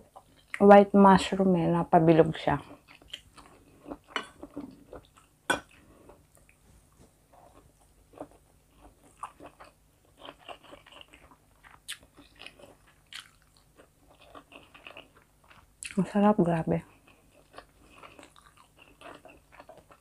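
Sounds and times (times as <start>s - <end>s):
person chewing: 2.6s - 16.0s, 16.9s - 20.0s.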